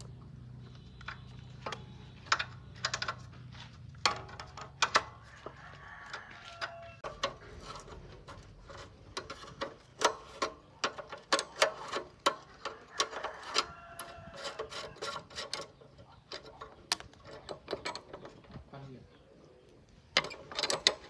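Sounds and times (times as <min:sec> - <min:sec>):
metal tools clicking and clinking: 0:01.0 - 0:18.6, 0:20.2 - 0:21.0.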